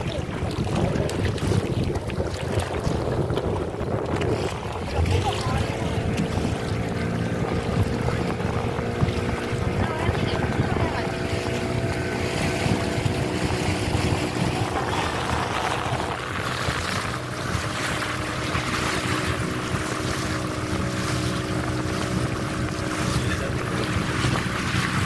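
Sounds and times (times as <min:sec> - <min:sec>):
motorboat engine running: 0:00.0 - 0:25.0
water splashing along hull: 0:00.0 - 0:25.0.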